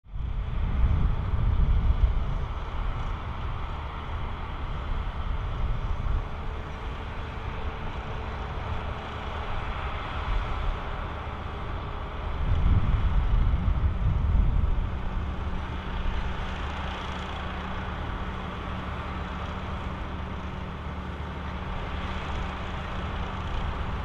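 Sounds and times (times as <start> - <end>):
harvester machinery noise: 0.2 - 24.0
tractor engine rumble: 0.2 - 24.0.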